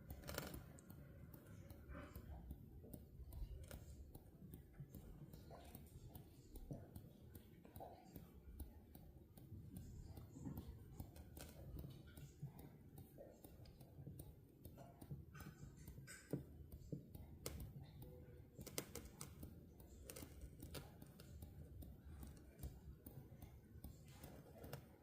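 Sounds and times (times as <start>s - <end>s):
light clicks and taps: 0.0s - 25.0s.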